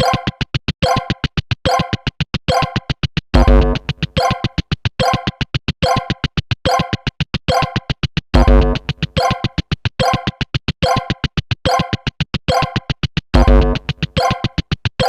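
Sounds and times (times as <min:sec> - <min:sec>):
rapid electronic ticking: 0:00.0 - 0:15.0.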